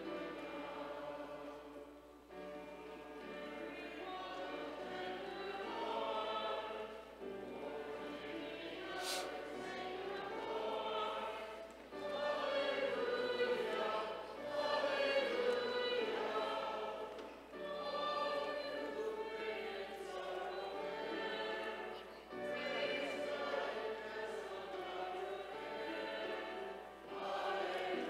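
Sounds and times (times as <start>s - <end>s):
congregation singing a hymn: 0.0s - 28.0s.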